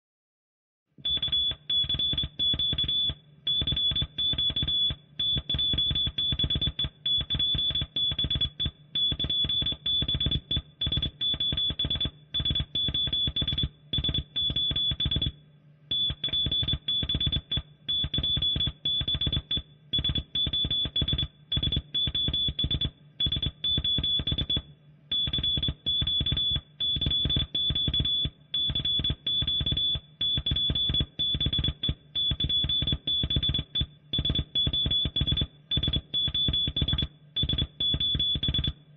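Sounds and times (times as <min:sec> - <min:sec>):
morse code beeps: 0:01.1 - 0:15.3, 0:16.0 - 0:24.6, 0:25.2 - 0:38.8.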